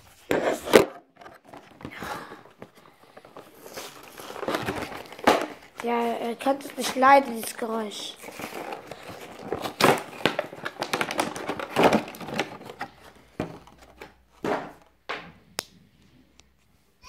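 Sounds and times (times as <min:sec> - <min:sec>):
packaging crackling and rustling: 0:00.0 - 0:14.8.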